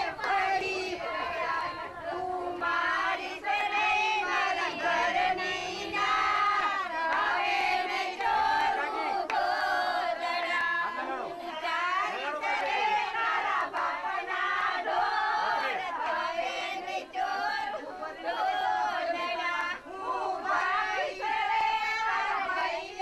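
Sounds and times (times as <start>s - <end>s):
women singing together: 0.0s - 23.0s.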